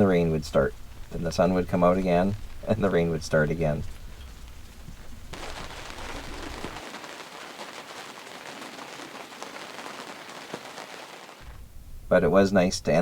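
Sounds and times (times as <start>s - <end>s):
rain falling: 0.0s - 11.8s.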